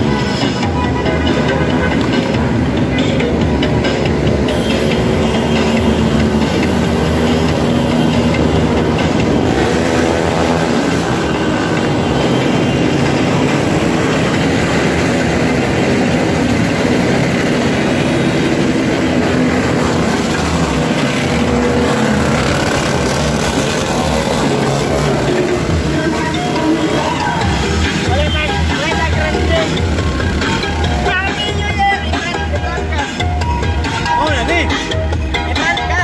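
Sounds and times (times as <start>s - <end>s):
car road and engine rumble: 0.0s - 36.0s
steady rush: 0.0s - 36.0s.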